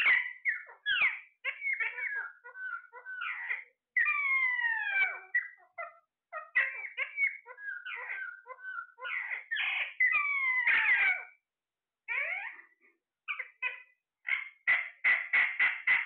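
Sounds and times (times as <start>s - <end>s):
parrot chattering: 0.0s - 11.4s, 12.1s - 16.0s
parrot squawks: 0.0s - 11.4s, 12.1s - 16.0s.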